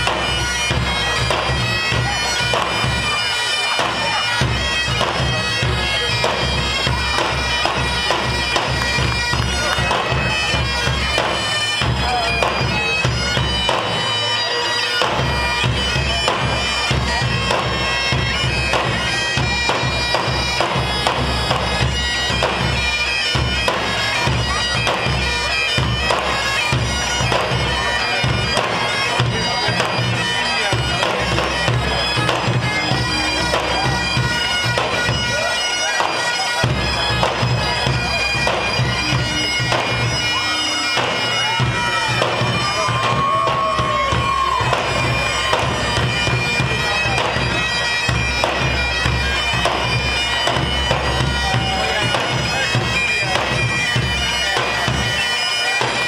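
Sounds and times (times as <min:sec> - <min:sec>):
bagpipes playing over drones: 0:00.0 - 0:56.0
barrel drums beating: 0:00.0 - 0:56.0.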